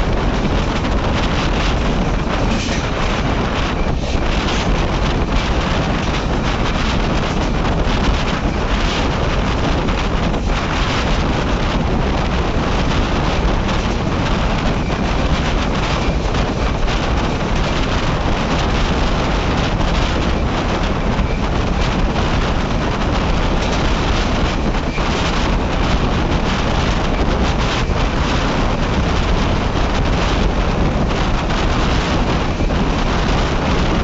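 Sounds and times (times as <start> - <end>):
train running on rails: 0.0 - 34.0
wind buffeting microphone: 0.0 - 34.0.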